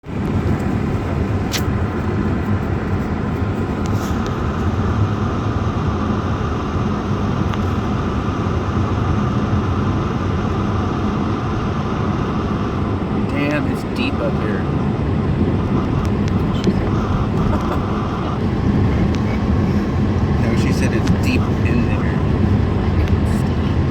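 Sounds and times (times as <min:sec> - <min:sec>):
car engine and tyre rumble: 0:00.0 - 0:23.9.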